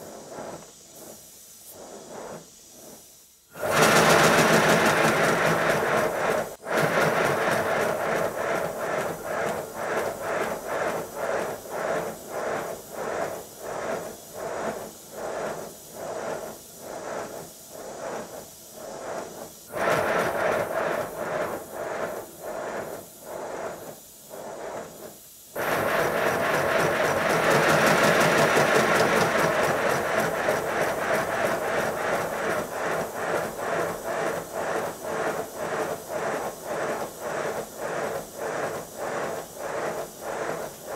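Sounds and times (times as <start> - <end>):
model steam locomotive exhaust beats: 0.0 - 40.9.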